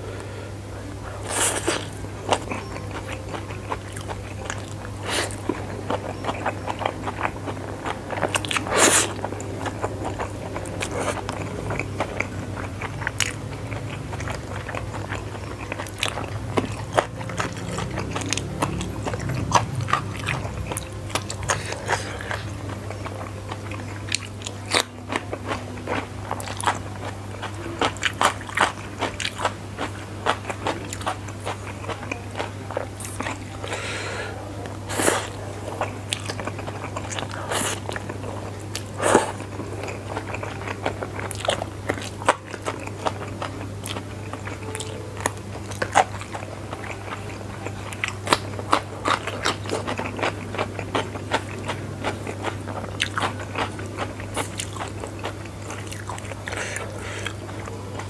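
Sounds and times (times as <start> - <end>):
low hum: 0.0 - 58.0
chewing noodles: 1.0 - 58.0.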